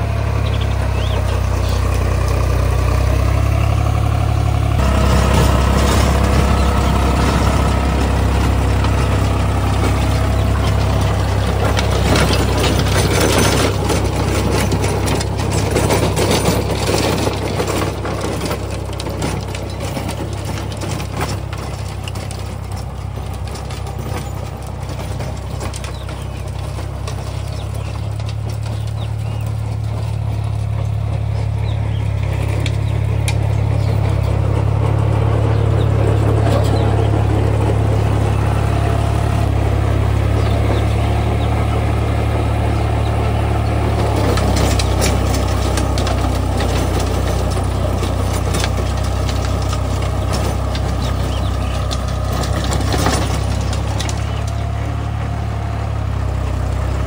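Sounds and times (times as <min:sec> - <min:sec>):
tiller clatter: 0:00.0 - 0:57.0
tractor engine under load: 0:00.0 - 0:57.0.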